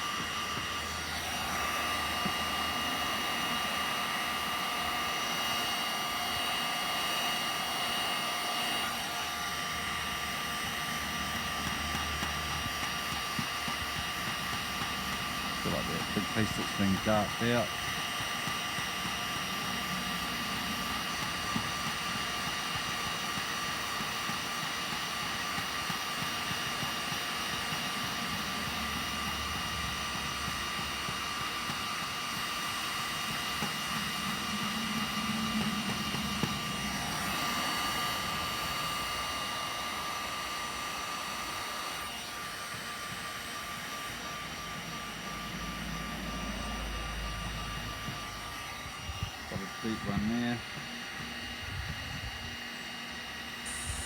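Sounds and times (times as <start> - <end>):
heat gun fan whining: 0.0 - 54.0.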